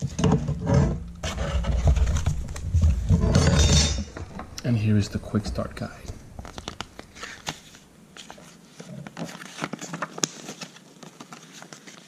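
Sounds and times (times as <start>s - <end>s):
paper pages rustling: 1.2s - 3.3s, 4.2s - 12.0s.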